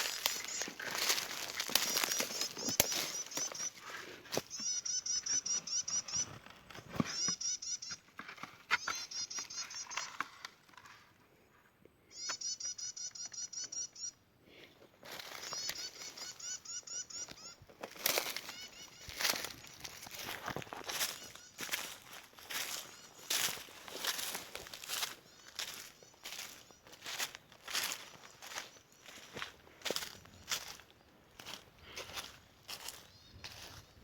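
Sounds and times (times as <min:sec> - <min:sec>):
small bird chirping: 0:00.0 - 0:10.5, 0:12.1 - 0:14.2, 0:15.0 - 0:34.0.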